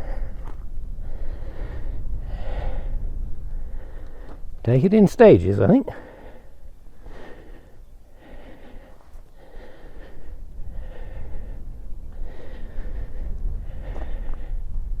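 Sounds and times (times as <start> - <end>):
person breathing hard: 0.0 - 4.5, 5.9 - 15.0
steady low rumble: 0.0 - 15.0.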